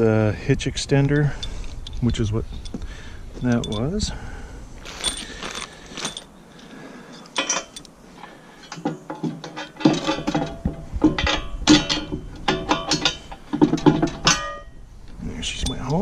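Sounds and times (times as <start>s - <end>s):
metal parts clanking: 1.1s - 4.2s, 4.8s - 14.8s, 15.5s - 16.0s.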